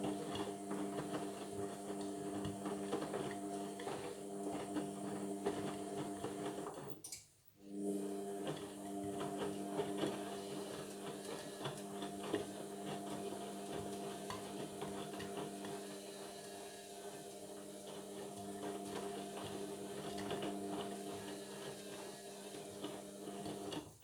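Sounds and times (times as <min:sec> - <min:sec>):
washing machine motor hum: 0:00.0 - 0:06.9, 0:07.6 - 0:23.9.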